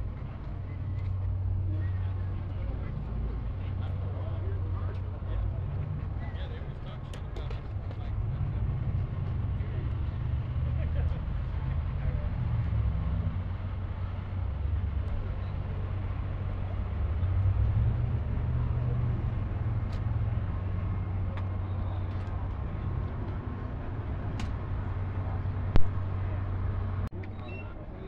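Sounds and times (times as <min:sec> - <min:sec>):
faint voices: 0:00.0 - 0:28.0
vehicle engine idling: 0:00.0 - 0:28.0.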